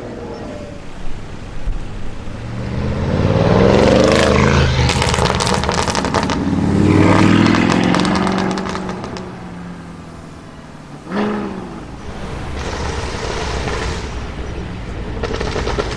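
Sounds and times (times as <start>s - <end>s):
car engine revving: 0.0s - 15.9s
exhaust crackles and pops: 0.8s - 15.9s.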